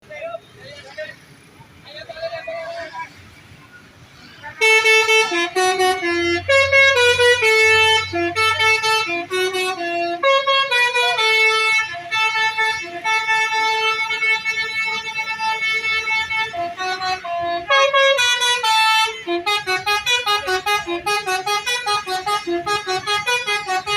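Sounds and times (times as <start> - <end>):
musical bus horn playing tune: 4.6 - 23.9.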